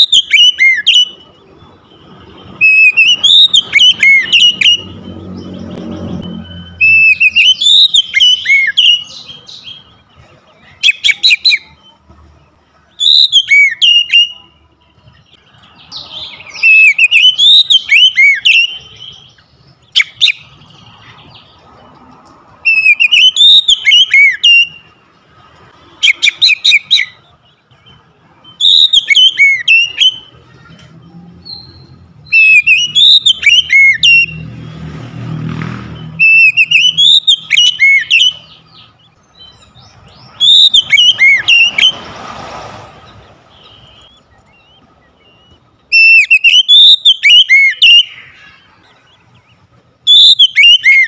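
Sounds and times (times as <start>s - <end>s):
bird singing whistled notes: 0.0s - 12.1s, 12.8s - 21.5s, 22.6s - 25.0s, 26.0s - 34.9s, 35.9s - 42.1s, 43.5s - 51.0s.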